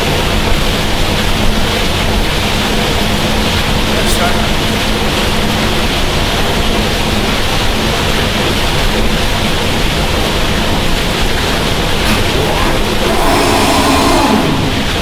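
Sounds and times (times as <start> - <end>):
generator steady rushing noise: 0.0 - 15.0.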